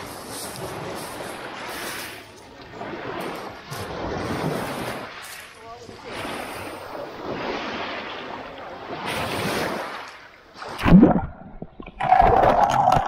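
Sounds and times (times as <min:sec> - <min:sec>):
waves washing over pebbles: 0:00.0 - 0:11.0
muffled underwater rush: 0:00.0 - 0:13.0.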